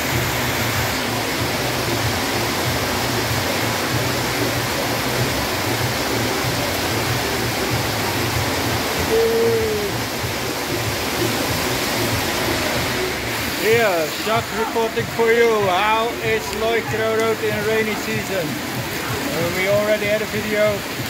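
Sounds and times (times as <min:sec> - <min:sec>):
faint bass beat music: 0:00.0 - 0:21.0
heavy rain pouring: 0:00.0 - 0:21.0.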